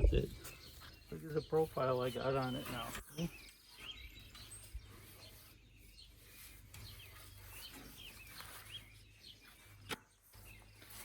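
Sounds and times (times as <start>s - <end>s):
outdoor background noise: 0.0s - 11.0s
songbird chirping faintly: 0.0s - 11.0s.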